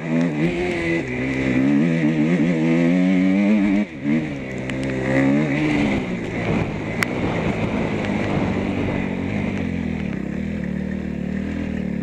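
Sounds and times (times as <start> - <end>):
motorbike engine running: 0.0 - 12.0
wind rushing over microphone: 0.3 - 10.5.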